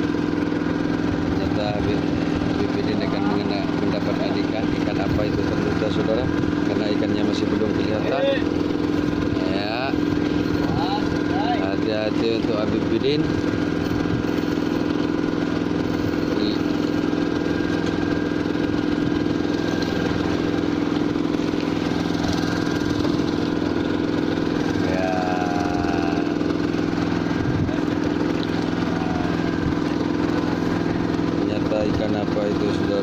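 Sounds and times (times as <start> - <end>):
boat engine idling: 0.0 - 33.0.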